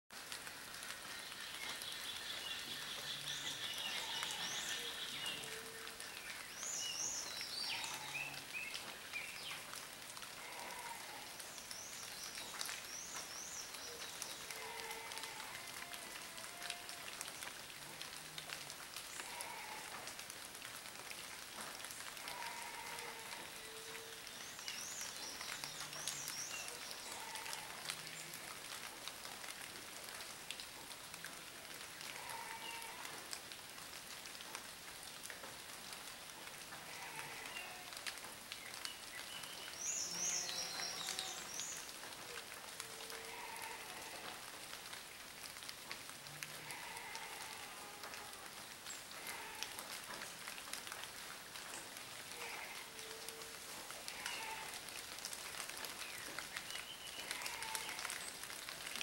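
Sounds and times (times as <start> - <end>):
rain hissing and pattering: 0.1 - 59.0.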